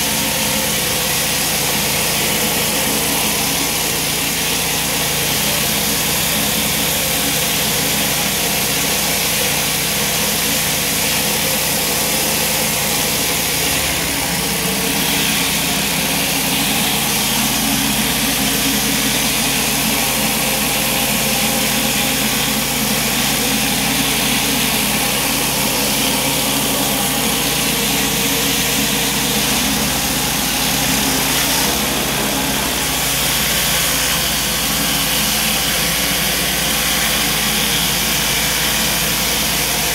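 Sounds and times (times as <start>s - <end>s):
pressure washer engine running: 0.0s - 39.9s
surface cleaner jets hissing: 0.0s - 39.9s.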